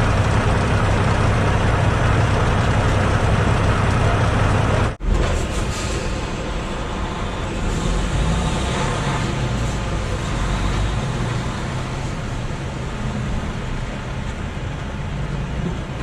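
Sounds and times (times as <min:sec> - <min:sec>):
road noise: 0:00.0 - 0:16.0
truck engine rumble: 0:00.0 - 0:16.0.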